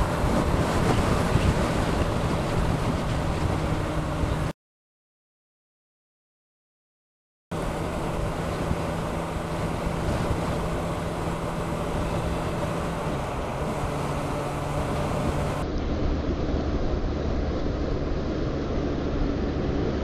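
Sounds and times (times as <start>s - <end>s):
motorcycle engine cruising: 0.0s - 4.5s, 7.5s - 20.0s
wind noise on microphone: 0.0s - 4.5s, 7.6s - 20.0s.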